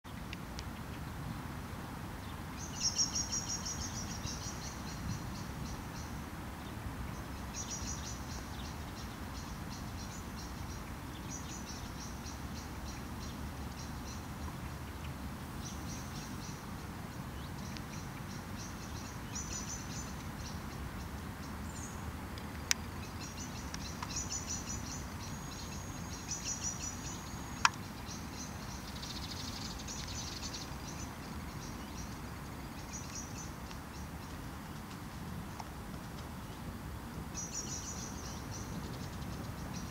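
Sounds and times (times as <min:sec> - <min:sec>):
insects chirping in trills: 0:02.6 - 0:06.2, 0:07.1 - 0:39.9.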